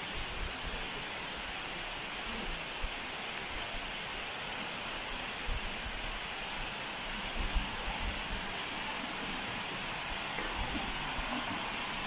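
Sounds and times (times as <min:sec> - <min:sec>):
insects calling in pulsing chorus: 0:00.0 - 0:12.0.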